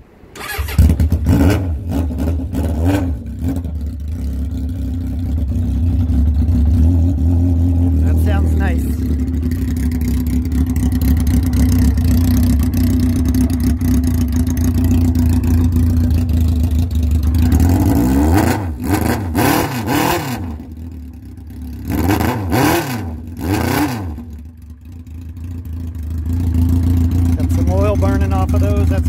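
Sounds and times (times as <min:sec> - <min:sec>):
motorcycle engine revving: 0:00.3 - 0:29.0
motorcycle engine idling: 0:00.4 - 0:18.9, 0:20.5 - 0:21.9, 0:24.1 - 0:29.0.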